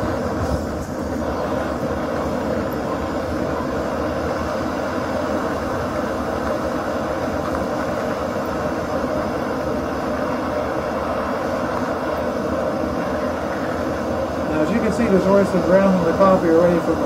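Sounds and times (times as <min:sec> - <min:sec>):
stove burner rushing: 0:00.0 - 0:17.0.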